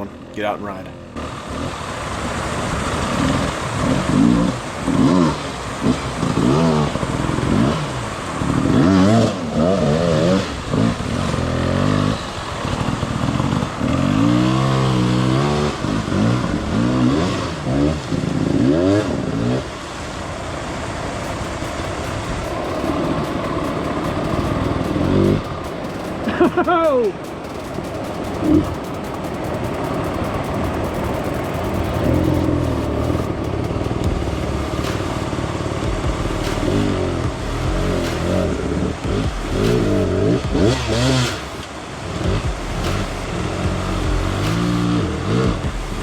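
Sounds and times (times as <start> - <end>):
dirt bike engine revving: 0.0 - 20.0, 20.7 - 46.0.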